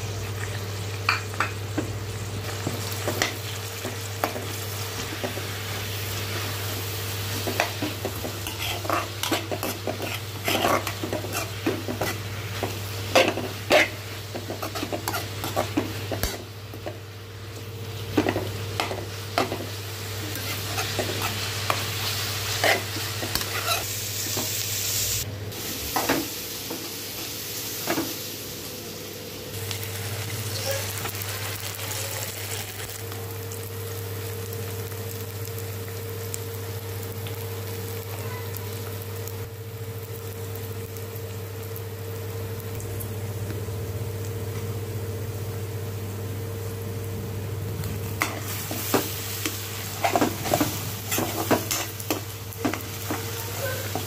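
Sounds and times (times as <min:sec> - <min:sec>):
vegetables sizzling in hot oil: 0:00.0 - 0:54.0.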